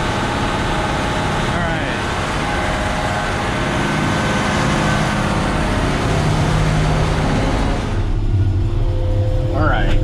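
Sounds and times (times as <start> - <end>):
diesel engine under load: 0.0 - 10.0.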